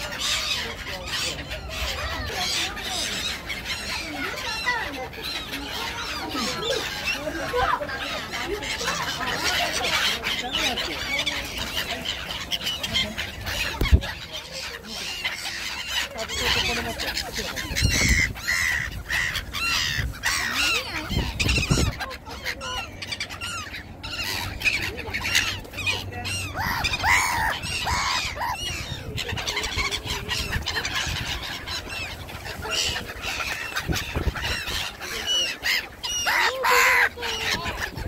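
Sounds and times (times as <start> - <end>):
gulls calling: 0.0 - 38.0.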